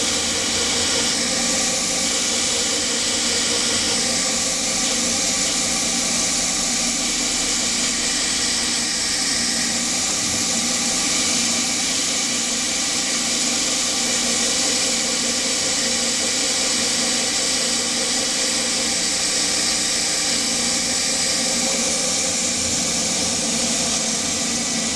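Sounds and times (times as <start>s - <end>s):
air mister hissing: 0.0s - 24.9s
lathe machine hum: 0.0s - 24.9s.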